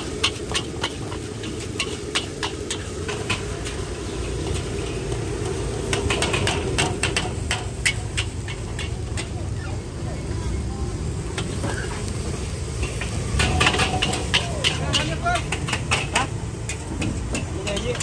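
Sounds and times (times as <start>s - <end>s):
metal utensils scraping a pan: 0.0s - 9.6s, 11.4s - 18.0s.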